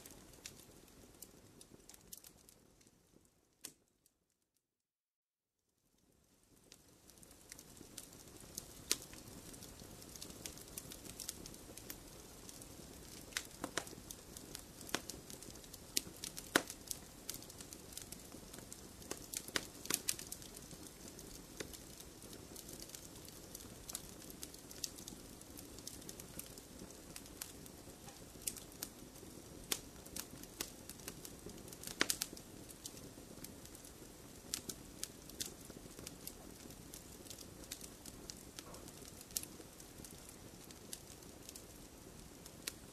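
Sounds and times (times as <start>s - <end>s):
fireplace fire crackling: 0.0s - 4.3s, 5.7s - 42.9s
rush of burning fire: 6.0s - 42.9s.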